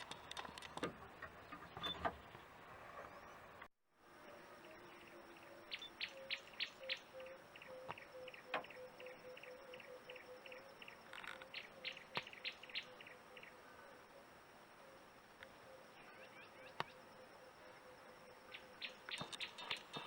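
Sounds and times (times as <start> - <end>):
faint steady hum: 2.2 - 20.0.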